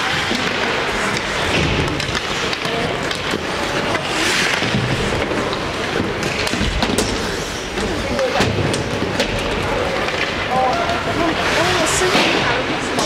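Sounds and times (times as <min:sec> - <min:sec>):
hockey sticks and puck clicks: 0:00.0 - 0:13.0
skates scraping on ice: 0:00.0 - 0:13.0.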